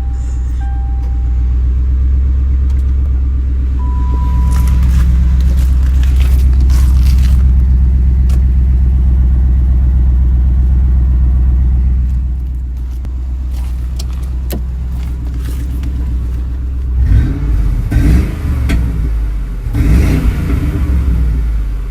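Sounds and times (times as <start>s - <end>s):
car engine idling: 0.0s - 21.9s
car engine revving: 1.7s - 21.9s.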